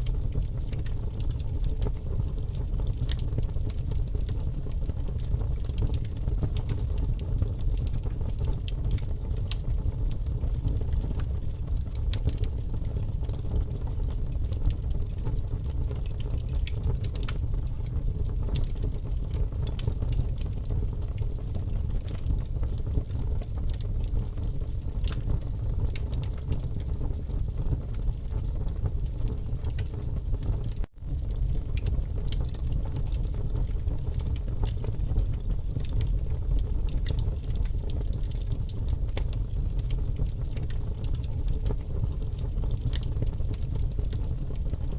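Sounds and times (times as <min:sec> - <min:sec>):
campfire crackling: 0:00.1 - 0:44.9.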